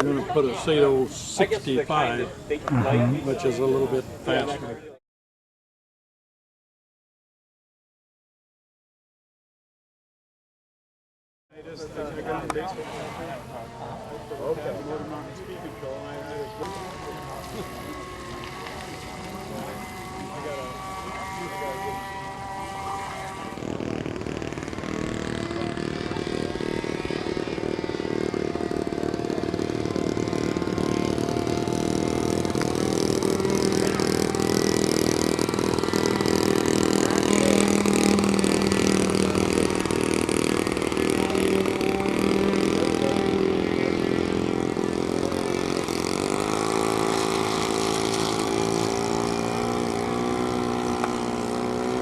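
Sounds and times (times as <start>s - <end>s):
model airplane engine running: 0.0s - 4.7s, 11.7s - 52.0s.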